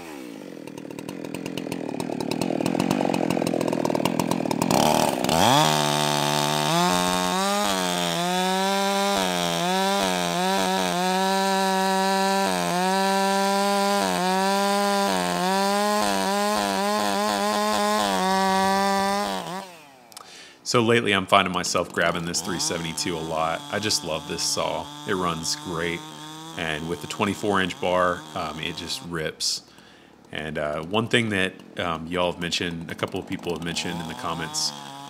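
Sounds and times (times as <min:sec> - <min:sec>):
chainsaw cutting a log: 0:00.0 - 0:20.5, 0:21.1 - 0:35.0.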